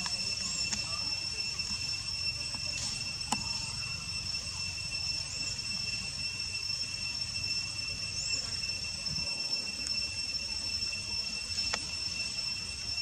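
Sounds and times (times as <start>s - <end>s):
faint chirps: 0.0s - 13.0s
high-pitched insect drone: 0.0s - 13.0s.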